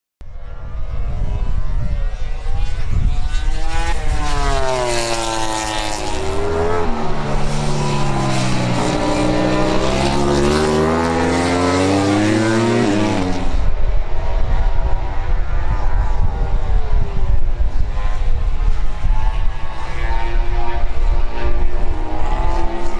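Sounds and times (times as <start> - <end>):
motorcycle engine at high revs: 0.8 - 13.8, 15.7 - 22.9.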